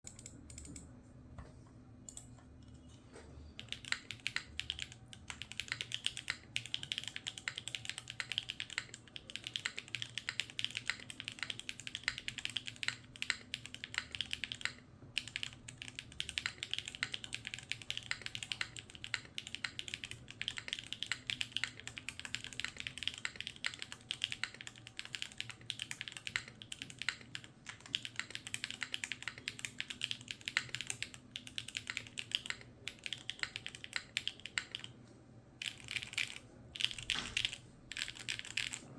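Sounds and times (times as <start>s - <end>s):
mechanical keyboard typing: 0.0s - 0.9s, 3.6s - 35.0s, 35.6s - 38.9s.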